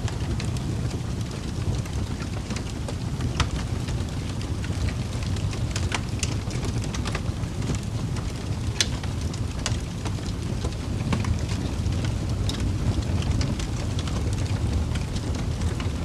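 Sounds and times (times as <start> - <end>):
fire flames rushing: 0.0 - 16.0
logs crackling and popping: 0.0 - 16.0.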